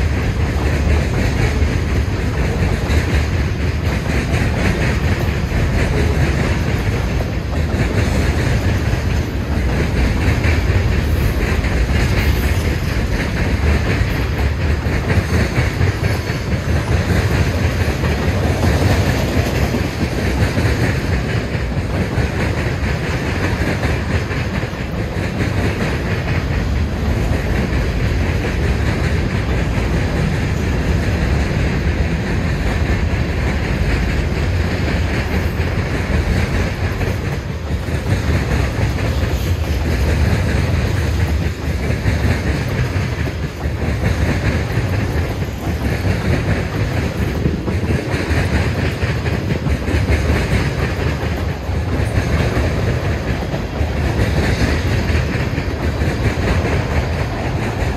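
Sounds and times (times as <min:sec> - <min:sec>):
freight train wheels clacking: 0:00.0 - 0:57.9.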